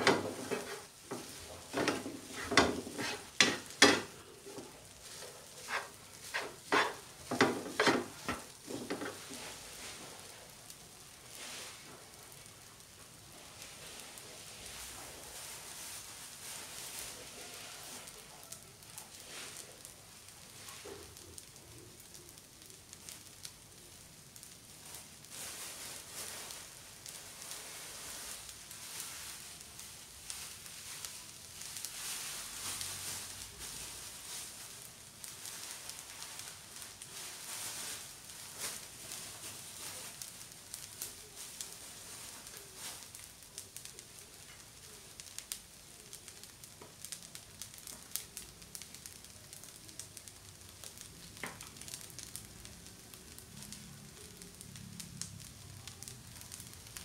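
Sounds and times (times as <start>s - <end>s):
rice sizzling in frying pan: 0.0s - 57.0s.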